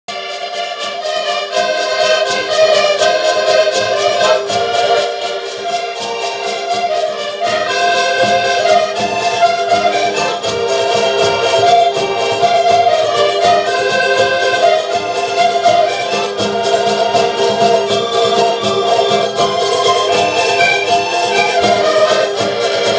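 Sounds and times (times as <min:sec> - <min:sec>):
accordions playing folk tune: 0:00.1 - 0:22.9
steady percussion beat: 0:00.1 - 0:22.9.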